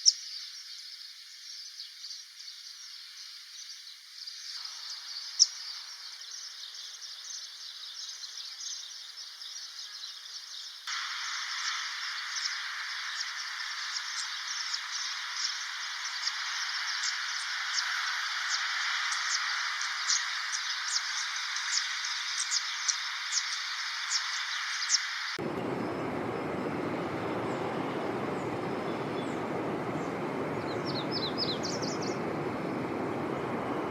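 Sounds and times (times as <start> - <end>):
small birds chirping and twittering: 0.0 - 33.9
steady high hiss: 0.0 - 33.9.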